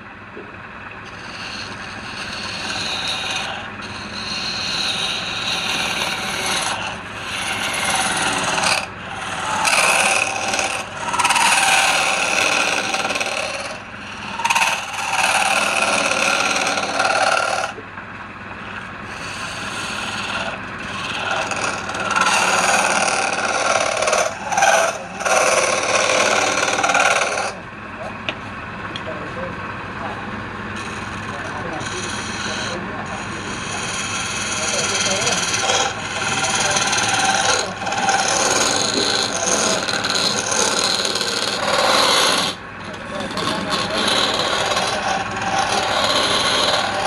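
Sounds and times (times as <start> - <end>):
lathe humming: 0.0 - 47.0
tool scraping spinning wood: 0.7 - 47.0.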